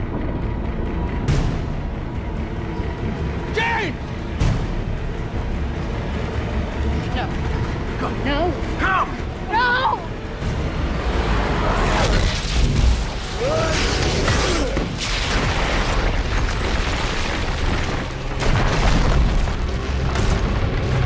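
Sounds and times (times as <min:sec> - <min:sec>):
deep rumble: 0:00.0 - 0:21.0
dramatic orchestral score: 0:00.0 - 0:21.0.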